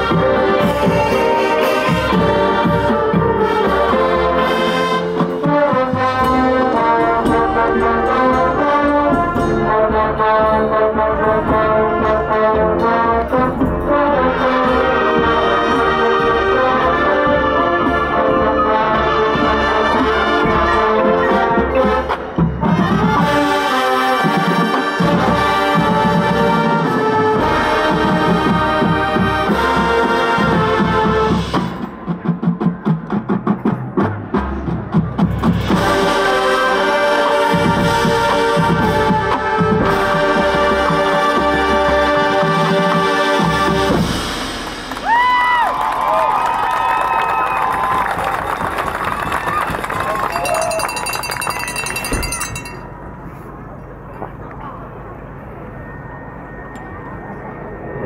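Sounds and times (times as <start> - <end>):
marching band playing: 0.0 - 53.3.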